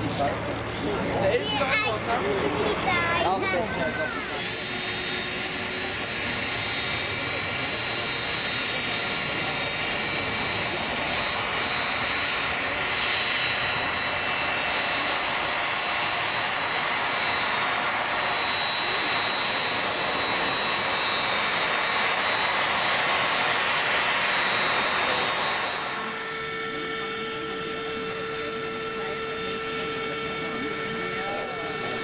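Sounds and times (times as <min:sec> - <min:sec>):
jet engines with fan whine: 0:00.0 - 0:32.0.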